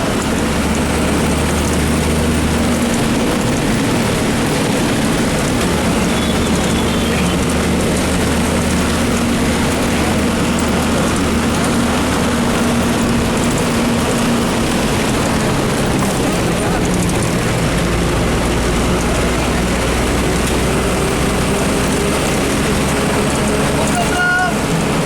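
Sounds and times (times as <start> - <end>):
bus engine running: 0.0 - 25.0
wet road noise: 0.0 - 25.0.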